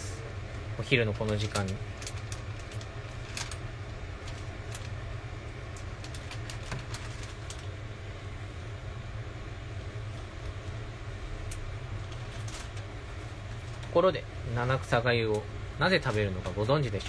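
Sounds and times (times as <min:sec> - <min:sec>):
kitchen background hum: 0:00.0 - 0:17.0.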